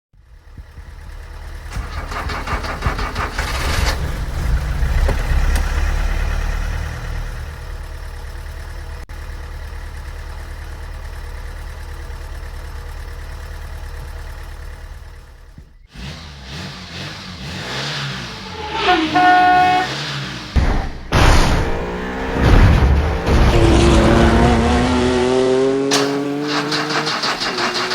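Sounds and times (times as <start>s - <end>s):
car engine running: 0.2s - 27.9s.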